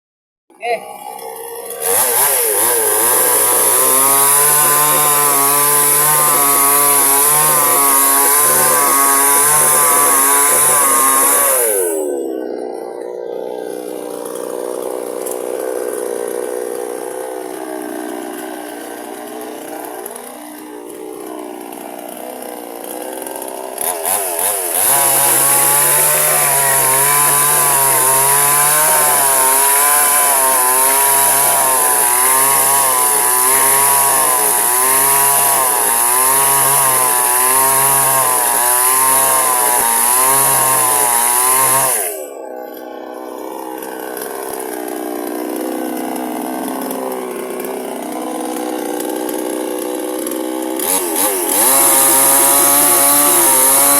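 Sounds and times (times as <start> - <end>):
chainsaw cutting wood: 0.5 - 53.9.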